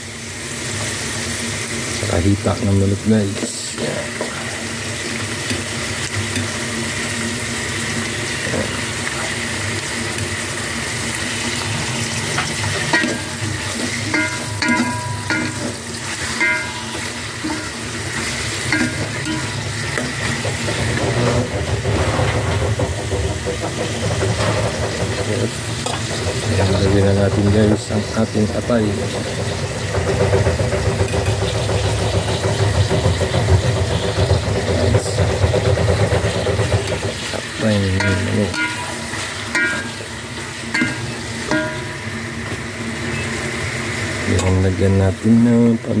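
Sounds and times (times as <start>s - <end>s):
chicken sizzling in oil: 0.0s - 21.8s, 22.6s - 46.0s.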